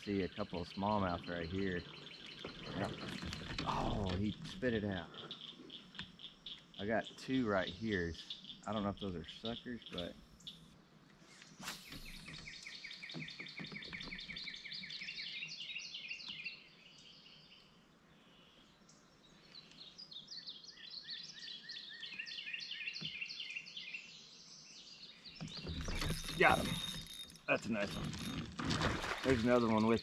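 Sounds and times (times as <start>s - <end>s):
faint outdoor ambience: 0.0s - 30.0s.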